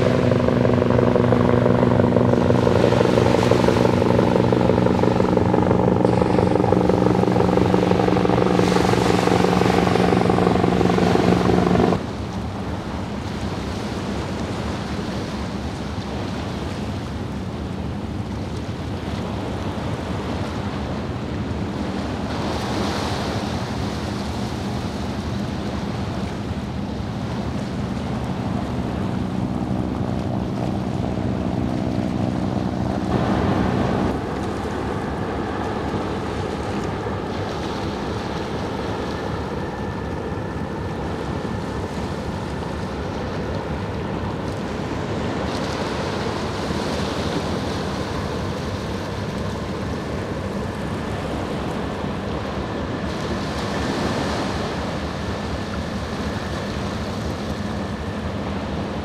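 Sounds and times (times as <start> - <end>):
low engine drone: 0.0 - 59.0
small waves washing on shore: 0.0 - 59.0.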